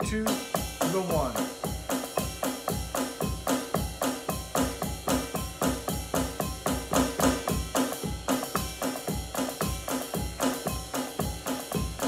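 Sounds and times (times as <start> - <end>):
electronic drum kit groove: 0.0 - 12.0.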